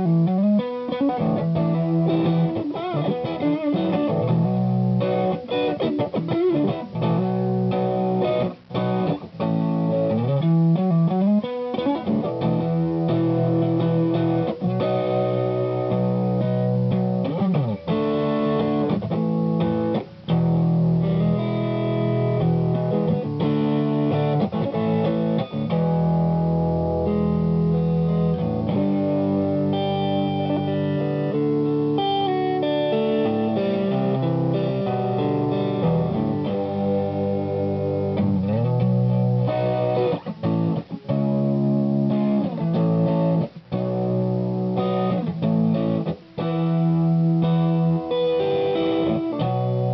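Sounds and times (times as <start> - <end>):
overdriven electric guitar: 0.0 - 49.9.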